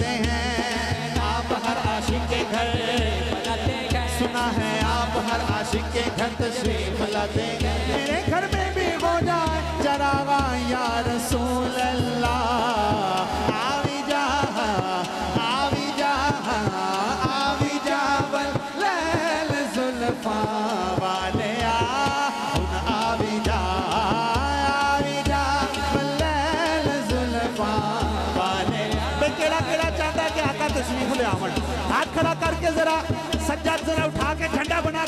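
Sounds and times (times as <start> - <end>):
barrel drum beat: 0.0 - 35.0.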